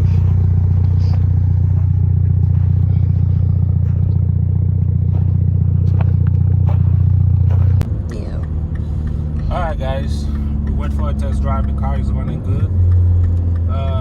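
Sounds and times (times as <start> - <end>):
car engine running steadily: 0.0 - 14.0
faint engine ticks: 0.0 - 14.0.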